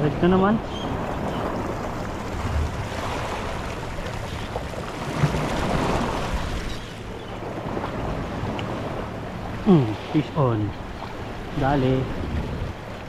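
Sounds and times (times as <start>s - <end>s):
sea waves washing ashore: 0.0s - 13.0s
wind buffeting microphone: 0.0s - 13.0s.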